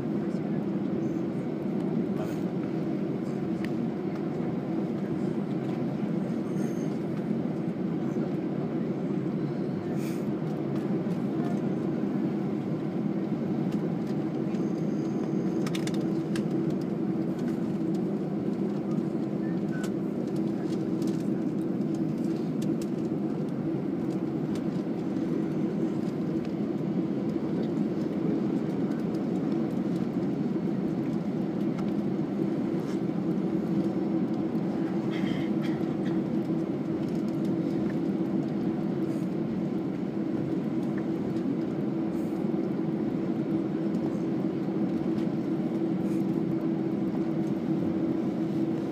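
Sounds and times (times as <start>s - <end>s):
aircraft cabin rumble with hum: 0.0s - 48.9s.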